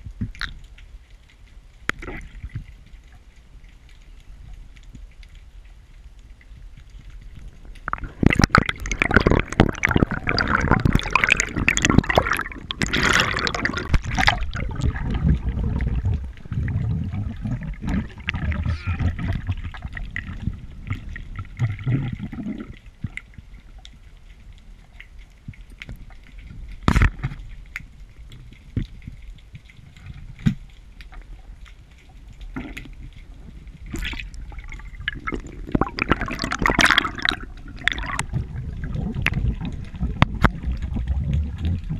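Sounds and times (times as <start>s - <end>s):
water rushing and bubbling underwater: 0.0s - 41.9s.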